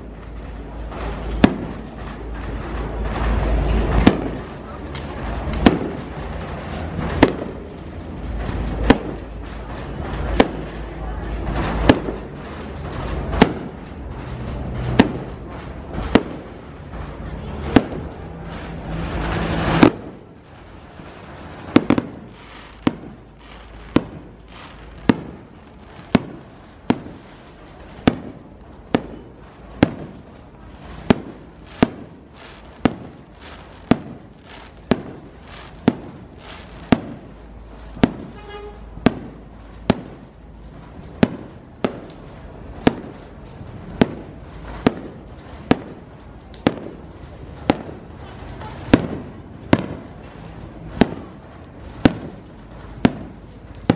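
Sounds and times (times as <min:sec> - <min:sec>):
firework shells bursting: 0:00.0 - 0:53.9.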